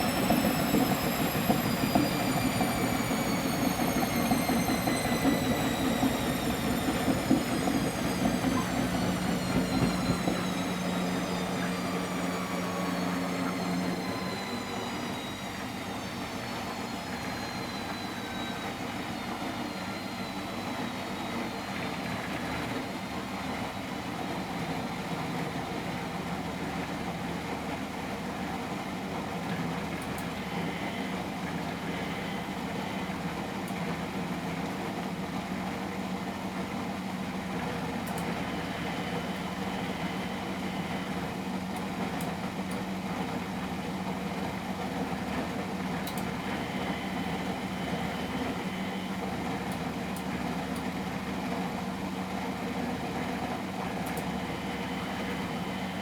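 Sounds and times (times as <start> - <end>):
washing machine humming: 0.0 - 56.0
washing machine motor whine: 0.0 - 56.0.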